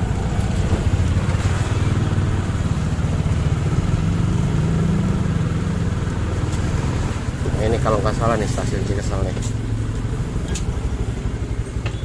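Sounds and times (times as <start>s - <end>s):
motorcycle engine droning: 0.0s - 12.0s
road and wind noise: 0.0s - 12.0s.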